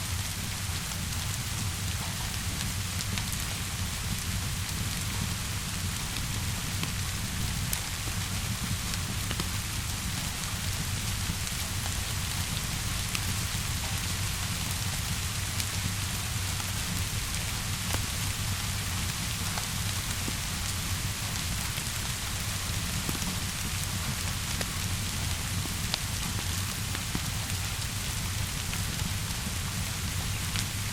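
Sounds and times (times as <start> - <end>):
steady rainfall: 0.0 - 30.9
wood fire crackling: 0.2 - 30.9.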